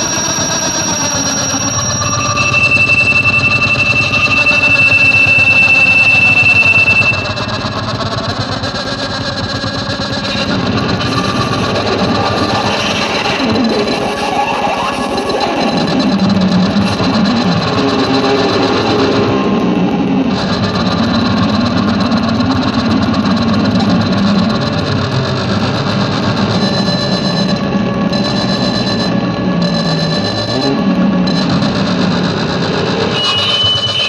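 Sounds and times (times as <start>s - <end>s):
grinding noise drone: 0.0s - 34.0s
high whine: 0.0s - 34.0s.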